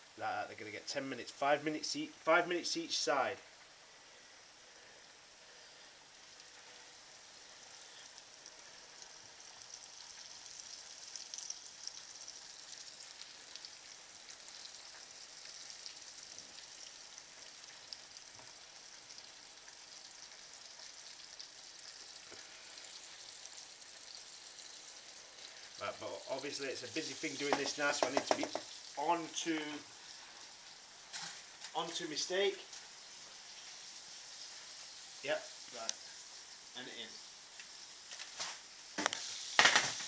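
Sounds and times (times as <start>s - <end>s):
fish sizzling in a frying pan: 0.0s - 40.0s.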